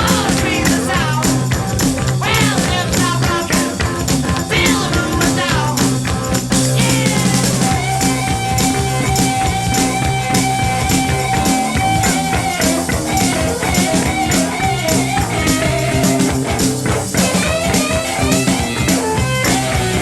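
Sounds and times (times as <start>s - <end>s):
bass guitar: 0.0s - 20.0s
electric guitar lead: 0.0s - 20.0s
steady drum beat: 0.0s - 20.0s.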